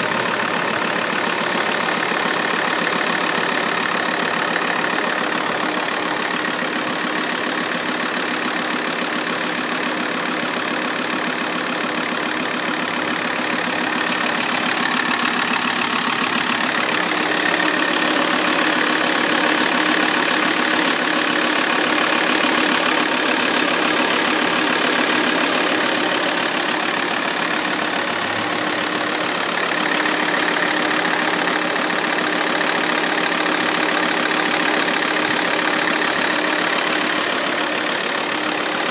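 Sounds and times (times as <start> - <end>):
diesel engine idling: 0.0 - 38.9
engine squeaking: 0.0 - 38.9.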